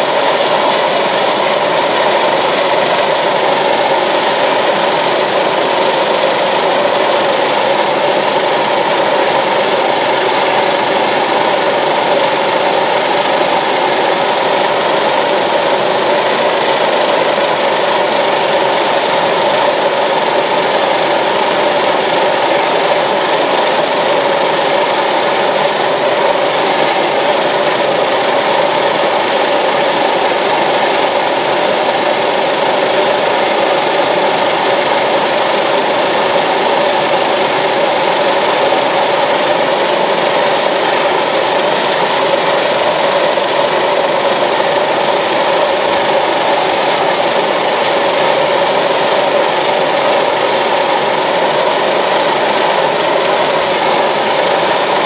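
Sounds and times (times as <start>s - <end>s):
turboprop engine whining: 0.0s - 55.0s.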